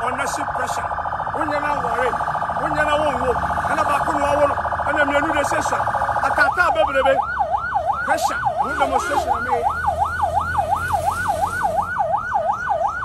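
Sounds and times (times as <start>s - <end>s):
electronic siren yelping: 0.0s - 13.0s.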